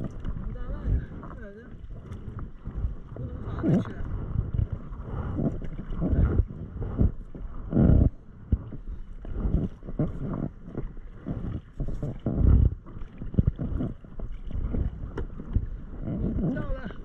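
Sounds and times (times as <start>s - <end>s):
kayak paddle strokes in water: 0.0s - 17.0s.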